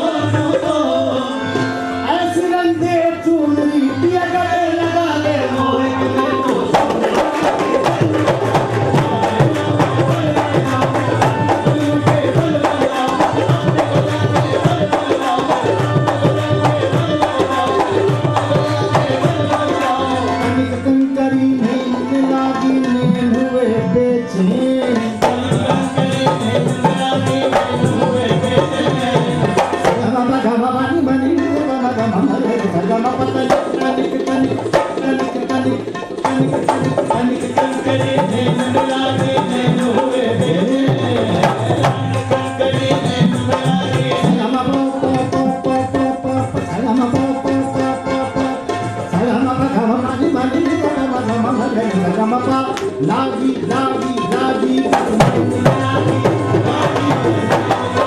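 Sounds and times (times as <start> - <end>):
harmonium melody: 0.0 - 58.0.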